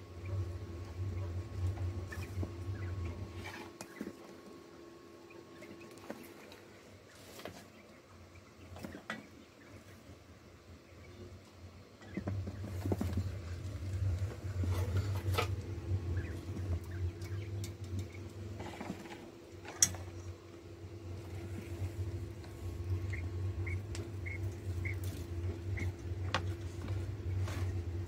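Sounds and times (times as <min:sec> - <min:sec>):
steady low hum: 0:00.0 - 0:28.0
quail scratching and pecking: 0:00.2 - 0:04.7, 0:05.3 - 0:28.0.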